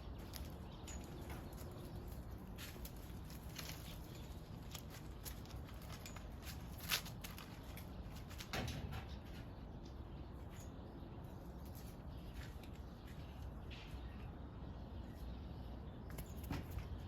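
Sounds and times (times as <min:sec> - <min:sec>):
cats scratching and rustling in vine: 0:00.0 - 0:09.7, 0:10.3 - 0:14.4.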